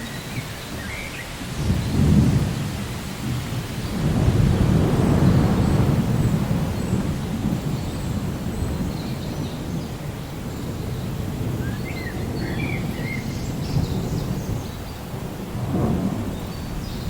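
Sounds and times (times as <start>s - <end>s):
rain: 0.0s - 17.0s
distant thunder rumbling: 1.4s - 17.0s.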